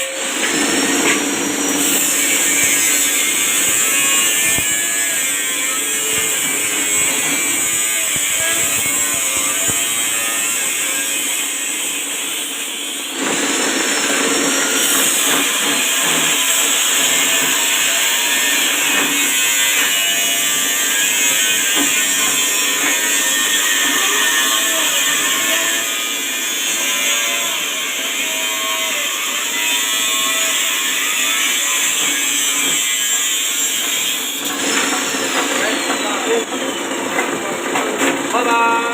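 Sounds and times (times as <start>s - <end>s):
chopping machine electric motor running: 0.0s - 38.4s.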